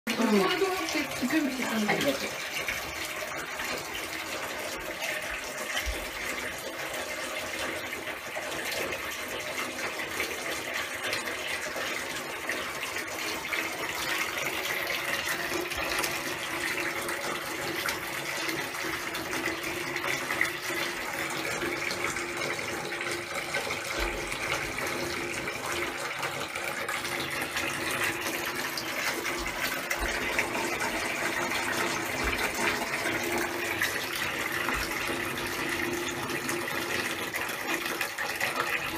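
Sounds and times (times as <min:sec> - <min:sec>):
water running into bathtub: 0:00.0 - 0:38.9.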